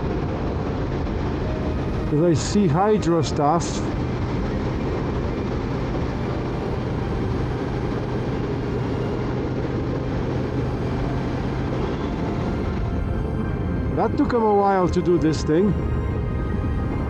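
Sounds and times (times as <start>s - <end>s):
motorcycle engine humming: 0.0s - 17.0s
wind and road noise: 0.0s - 17.0s.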